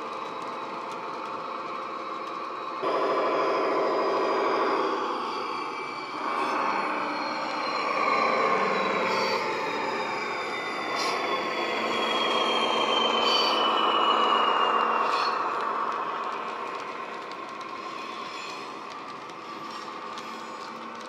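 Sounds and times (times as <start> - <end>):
thin falling whine: 0.3 - 21.0.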